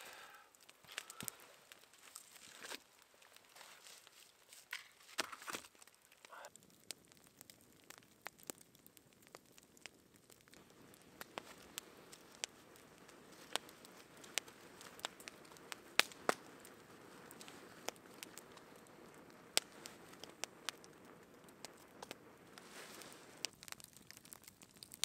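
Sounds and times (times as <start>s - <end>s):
campfire crackling and popping: 0.0s - 25.0s
low steady hiss: 0.0s - 25.0s.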